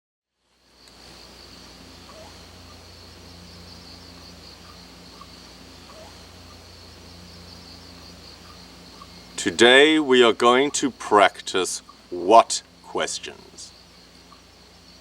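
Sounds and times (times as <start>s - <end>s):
insects trilling: 0.4s - 15.0s
low steady hum: 0.4s - 15.0s.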